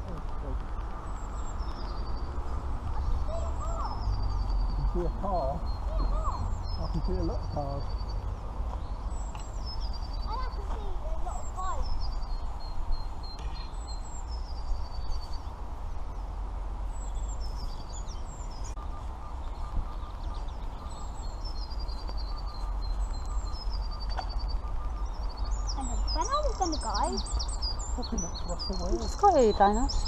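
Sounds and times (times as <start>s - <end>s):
small birds singing: 0.0s - 30.0s.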